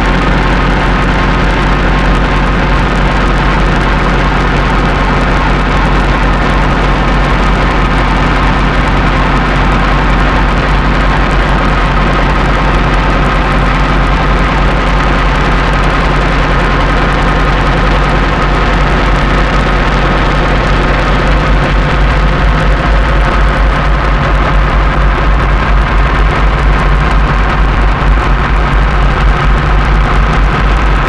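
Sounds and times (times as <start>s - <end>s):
heavy low hum: 0.0s - 31.0s
synthesizer drone: 0.0s - 31.0s.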